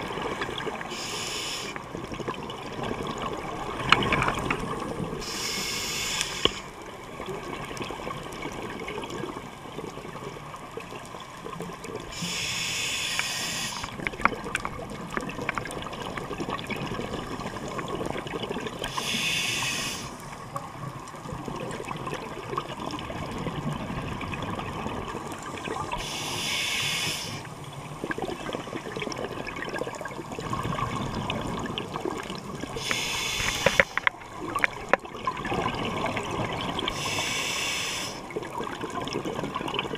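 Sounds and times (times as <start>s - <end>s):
exhaled bubbles underwater: 0.0s - 39.9s
muffled underwater rush: 0.0s - 39.9s.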